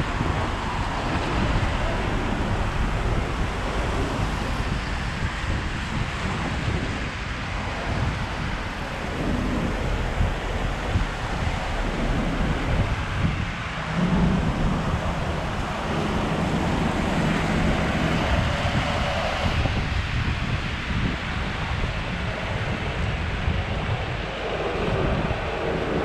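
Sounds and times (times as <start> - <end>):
traffic on wet road: 0.0 - 26.0
wind buffeting microphone: 0.0 - 26.0.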